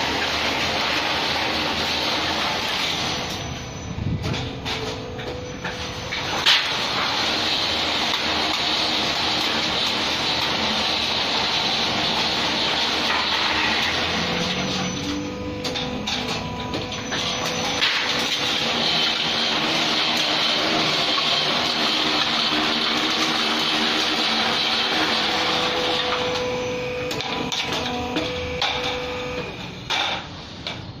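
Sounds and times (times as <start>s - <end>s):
roll-forming machine whirring: 0.0s - 30.2s.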